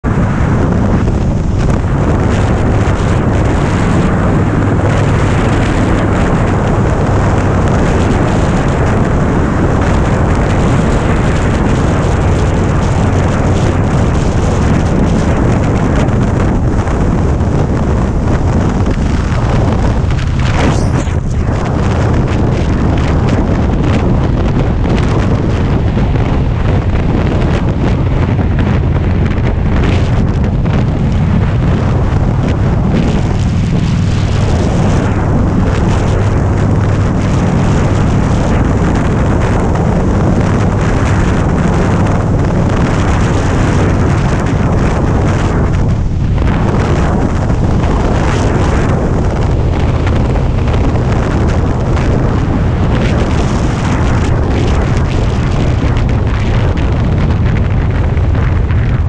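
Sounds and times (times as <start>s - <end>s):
motorcycle engine droning: 0.0s - 59.0s
wind noise on microphone: 0.0s - 59.0s.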